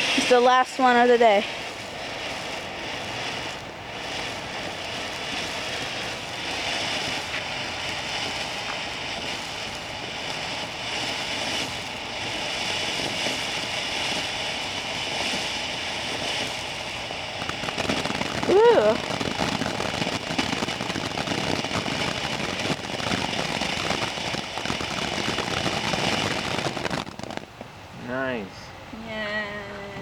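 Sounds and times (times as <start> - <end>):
ground firework hissing: 0.0 - 28.7.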